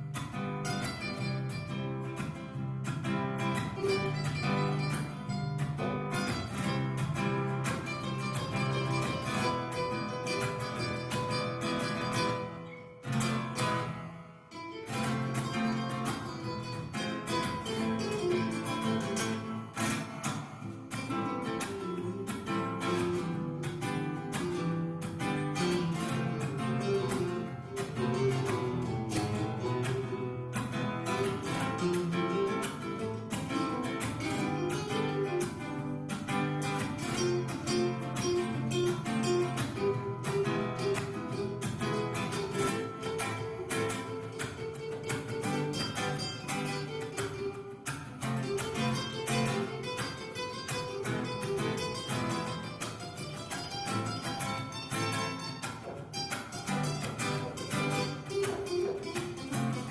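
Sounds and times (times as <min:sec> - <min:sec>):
flamenco-style acoustic guitar: 0:00.0 - 0:59.9.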